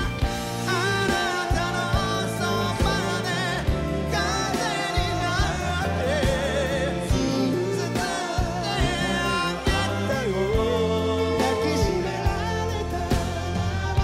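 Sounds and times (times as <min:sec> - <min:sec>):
band playing: 0:00.0 - 0:14.0
male vocal group singing: 0:00.0 - 0:14.0
steady drum beat: 0:00.0 - 0:14.0.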